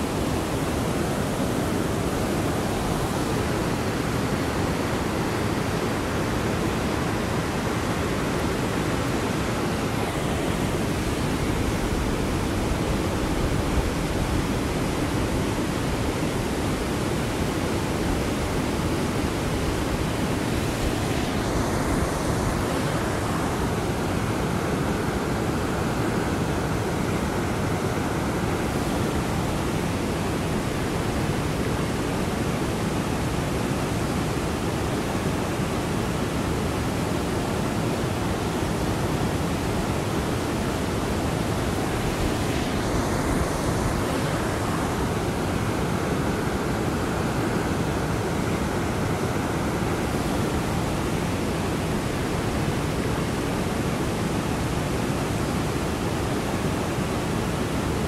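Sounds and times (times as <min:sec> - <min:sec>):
river rushing through rapids: 0:00.0 - 0:58.0.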